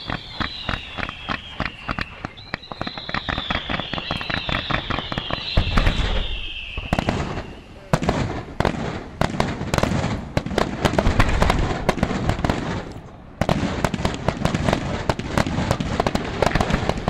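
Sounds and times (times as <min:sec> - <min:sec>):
fireworks bangs and crackle: 0:00.0 - 0:17.0.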